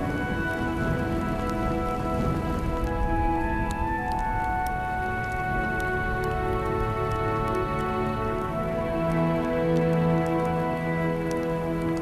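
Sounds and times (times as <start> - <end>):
slow sustained film score chords: 0.0 - 12.0.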